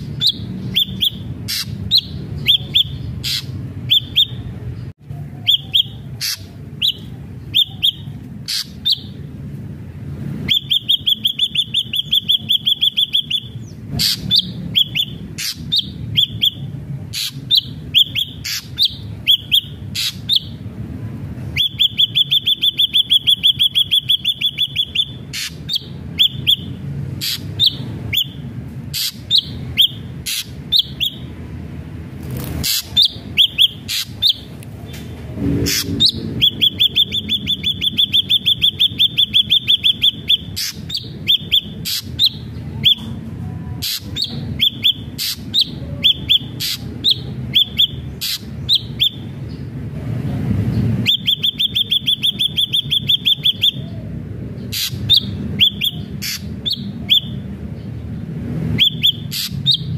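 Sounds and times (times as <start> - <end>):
bird whistling and trilling: 0.0 - 4.5, 5.4 - 9.2, 10.4 - 20.6, 21.5 - 31.3, 32.6 - 34.5, 35.6 - 43.1, 43.8 - 49.6, 51.0 - 57.5, 58.7 - 59.9.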